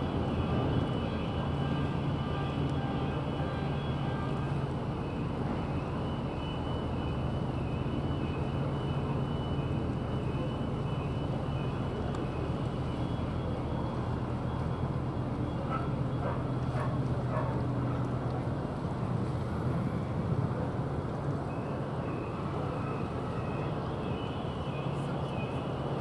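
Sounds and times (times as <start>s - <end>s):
constant wash of noise: 0.0s - 26.0s
ship engines droning: 0.0s - 26.0s.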